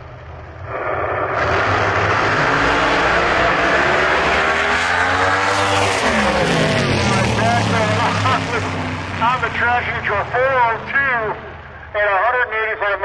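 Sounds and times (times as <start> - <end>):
race car engine full throttle: 0.0 - 12.4.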